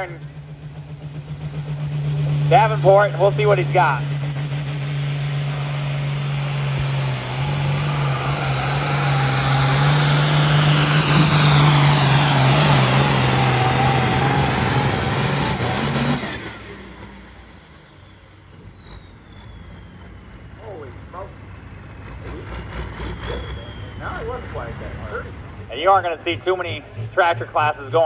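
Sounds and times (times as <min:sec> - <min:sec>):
diesel engine at full throttle: 0:00.0 - 0:28.0.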